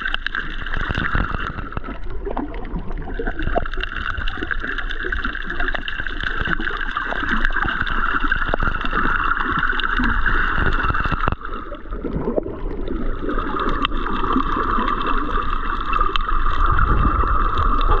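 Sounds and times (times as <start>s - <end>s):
crackle of small clicks: 0.0s - 18.0s
muffled underwater rush: 0.0s - 18.0s.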